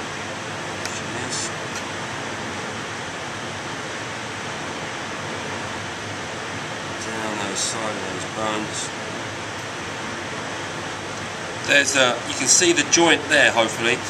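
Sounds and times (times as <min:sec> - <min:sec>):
kitchen ventilation rushing: 0:00.0 - 0:14.0.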